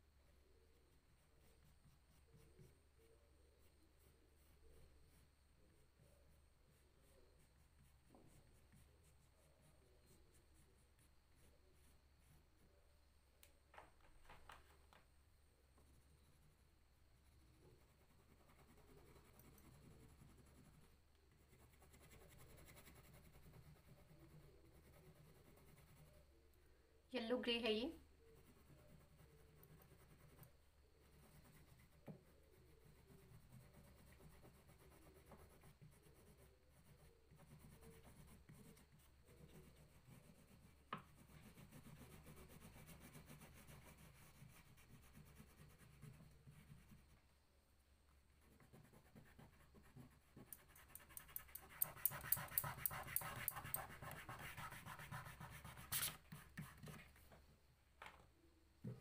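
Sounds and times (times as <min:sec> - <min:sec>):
crayon scribbling on paper: 0:00.7 - 0:12.6, 0:17.5 - 0:26.3, 0:28.3 - 0:47.2, 0:48.4 - 0:57.1.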